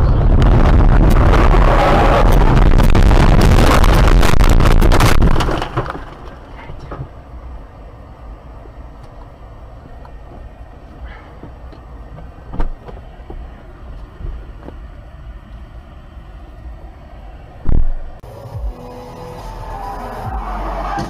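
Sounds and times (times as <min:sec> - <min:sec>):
low rumble of vehicles: 0:00.0 - 0:21.0.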